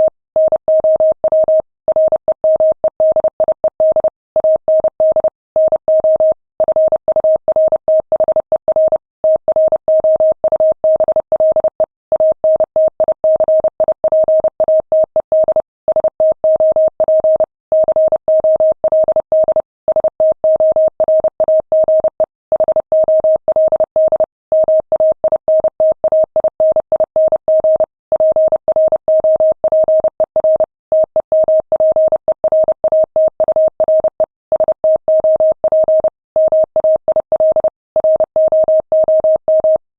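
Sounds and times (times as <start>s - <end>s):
morse code beeps: 0.0s - 12.6s, 13.3s - 39.8s.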